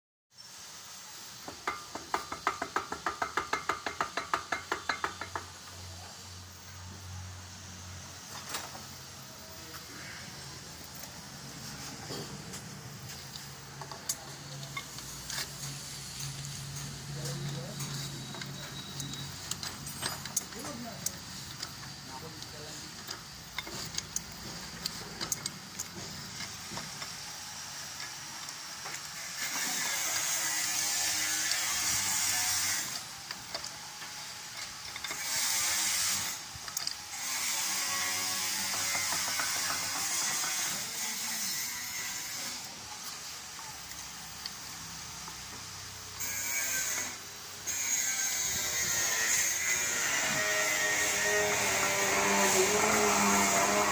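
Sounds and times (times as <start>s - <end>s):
steady hiss: 0.3s - 53.9s
loud steady mechanical noise: 0.4s - 53.9s.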